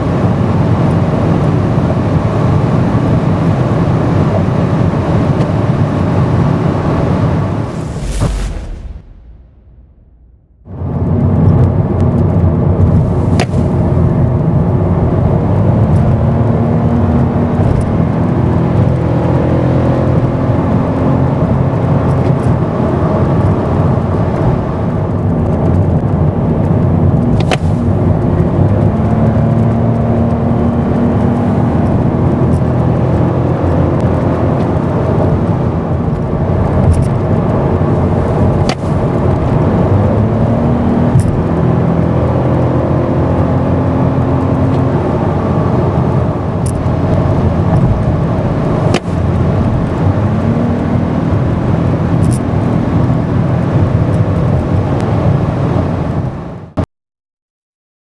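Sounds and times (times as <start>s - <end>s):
car engine at speed: 0.0s - 56.8s
road and tyre noise: 0.0s - 56.8s.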